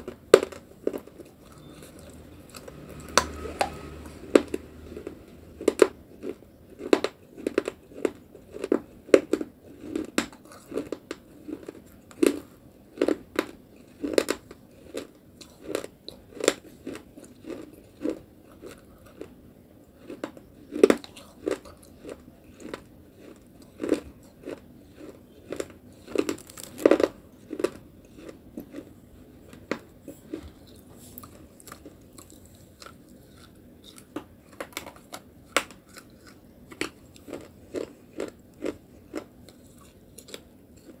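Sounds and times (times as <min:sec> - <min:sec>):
crunching and chewing clay: 0:00.0 - 0:41.0.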